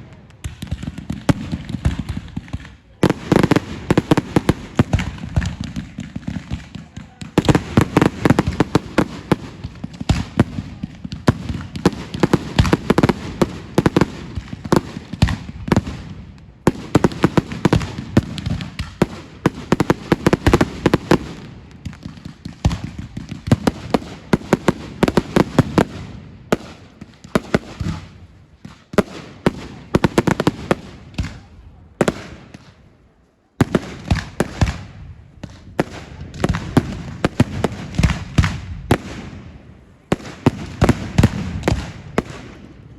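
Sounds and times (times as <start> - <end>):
fireworks crackling and banging: 0.0 - 42.9.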